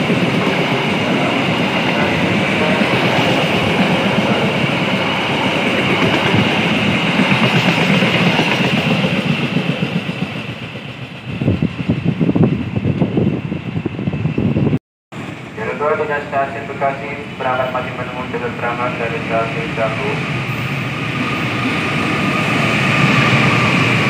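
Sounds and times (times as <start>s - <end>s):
train coaches passing at speed: 0.0s - 24.0s.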